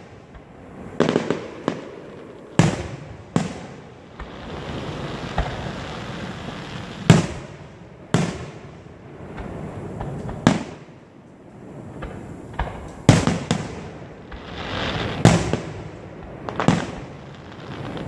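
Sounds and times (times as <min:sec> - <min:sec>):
firework bangs: 0:00.0 - 0:18.0.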